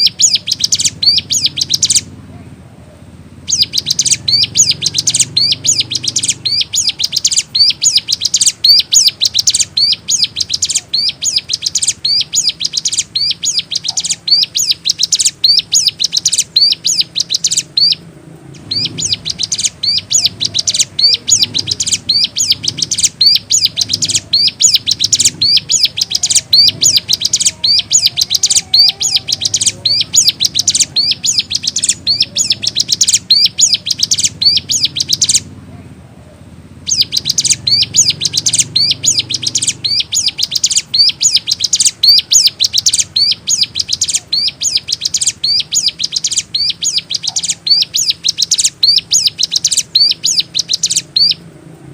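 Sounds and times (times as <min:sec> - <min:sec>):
songbird high chirping song: 0:00.0 - 0:51.9.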